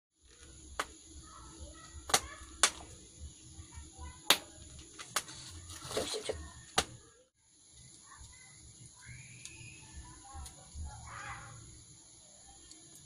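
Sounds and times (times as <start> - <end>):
fire popping: 0.2 - 7.1, 7.7 - 13.0
wood fire crackling: 0.2 - 7.1, 7.7 - 13.0.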